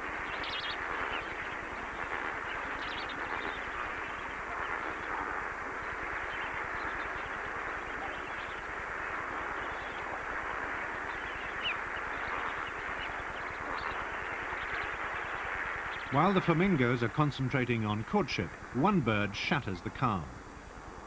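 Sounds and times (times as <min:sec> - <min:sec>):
flock of flamingos calling: 0:00.0 - 0:20.3.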